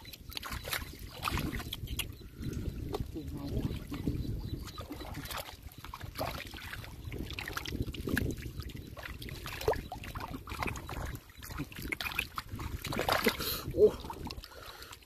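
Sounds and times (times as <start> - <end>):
small splashes: 0.0 - 2.2, 2.8 - 15.0
hands sloshing in muddy water: 0.0 - 15.0.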